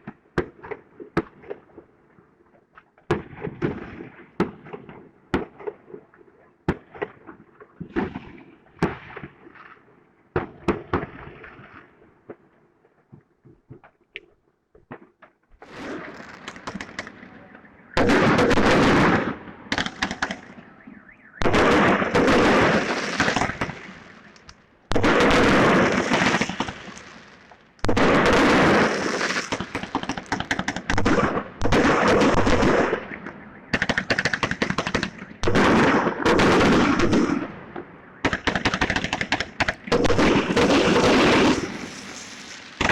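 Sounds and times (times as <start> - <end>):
fireworks bangs and crackling: 3.0 - 12.4, 14.9 - 42.9.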